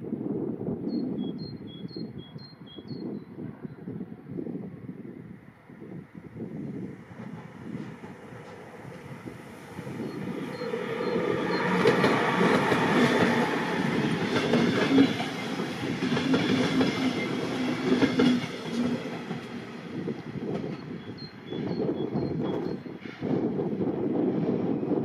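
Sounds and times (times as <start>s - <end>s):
train passing: 4.6s - 25.0s.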